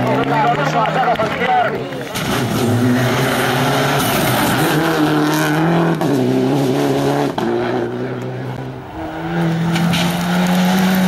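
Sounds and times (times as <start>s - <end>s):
rally car engine revving: 2.0s - 11.0s.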